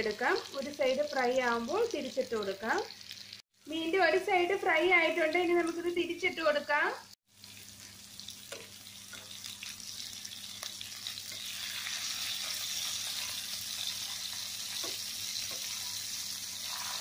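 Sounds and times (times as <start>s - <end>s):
fish sizzling in hot oil: 0.0s - 6.0s, 7.3s - 17.0s.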